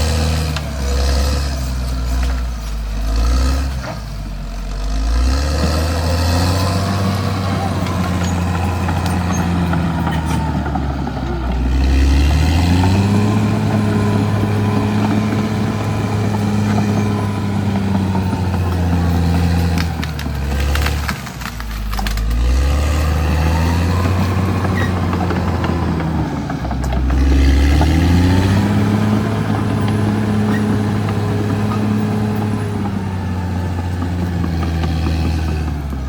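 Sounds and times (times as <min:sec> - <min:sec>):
bulldozer diesel engine revving: 0:00.0 - 0:36.0.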